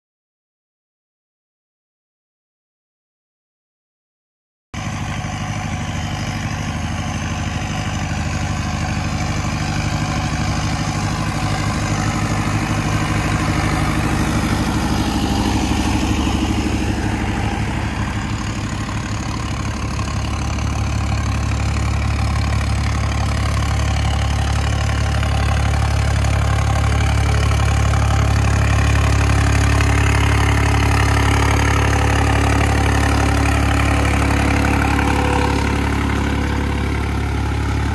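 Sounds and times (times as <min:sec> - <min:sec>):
tractor diesel engine running: 0:04.8 - 0:37.9.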